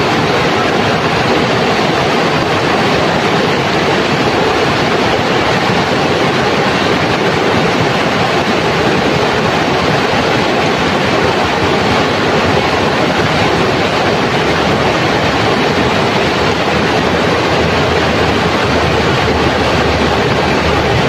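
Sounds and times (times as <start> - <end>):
river rapids rushing over stones: 0.0 - 21.0.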